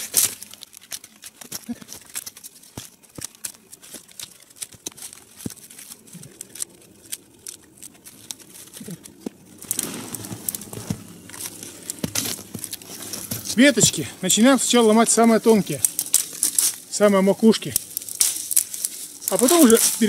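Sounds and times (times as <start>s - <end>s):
branches rustling: 0.0s - 20.0s
twigs snapping: 0.0s - 20.0s.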